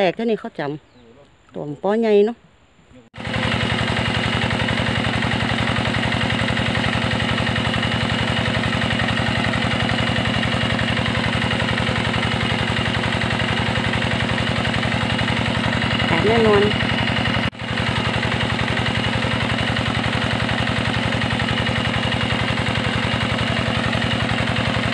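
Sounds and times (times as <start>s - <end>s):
small engine idling: 3.2s - 24.9s.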